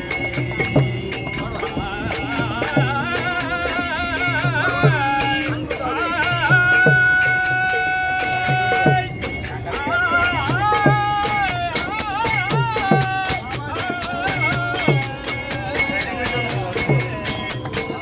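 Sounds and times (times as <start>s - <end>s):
hand cymbals clashing: 0.0s - 18.0s
person singing devotional song: 0.0s - 18.0s.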